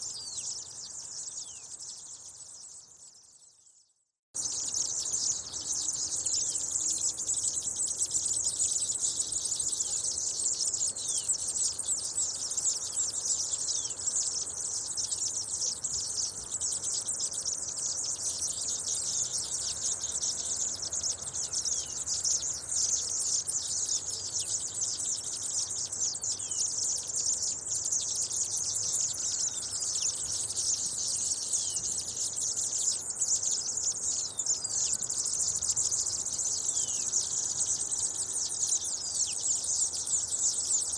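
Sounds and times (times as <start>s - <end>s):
flock of birds chattering: 0.0s - 3.2s, 4.4s - 40.9s.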